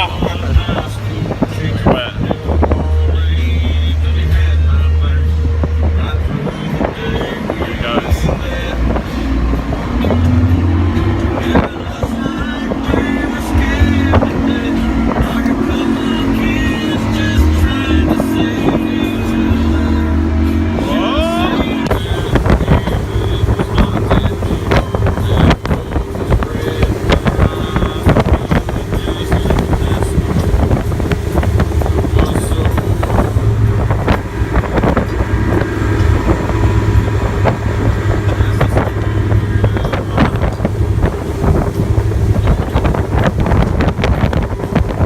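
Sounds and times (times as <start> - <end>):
motorboat engine drone: 0.0 - 45.0
wind buffeting microphone: 0.0 - 45.0.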